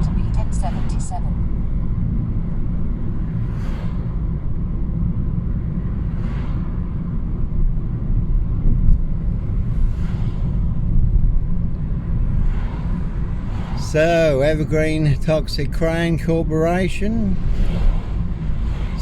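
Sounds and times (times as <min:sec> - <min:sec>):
road and engine rumble: 0:00.0 - 0:19.0.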